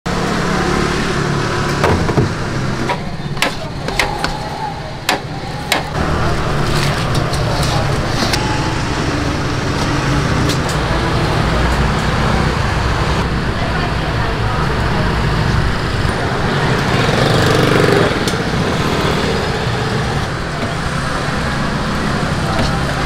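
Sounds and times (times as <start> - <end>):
traffic hum: 0.1 - 23.0
murmur of voices: 2.8 - 23.0.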